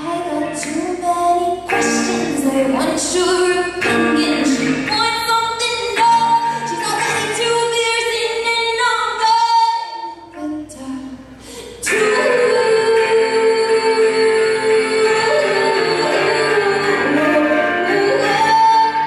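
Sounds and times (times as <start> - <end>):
acoustic guitar: 0.0 - 19.0
woman singing: 0.0 - 19.0.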